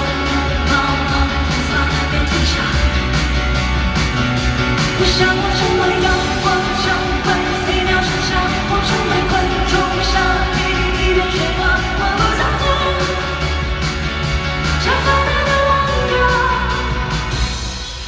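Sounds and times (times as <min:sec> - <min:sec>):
person singing: 0:00.0 - 0:03.4, 0:04.9 - 0:13.8, 0:14.7 - 0:17.5
live pop-rock band: 0:00.0 - 0:18.0
steady drum beat: 0:00.0 - 0:18.0.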